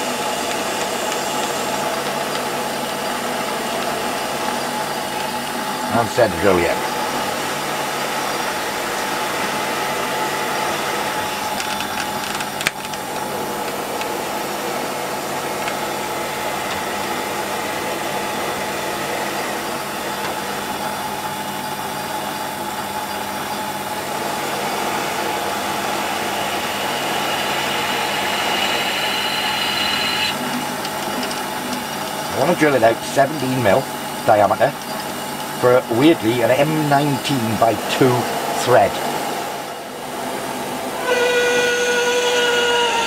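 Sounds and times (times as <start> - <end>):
high-pitched cutting whine: 0.0 - 12.2, 13.4 - 43.0
metal lathe humming: 0.0 - 43.0.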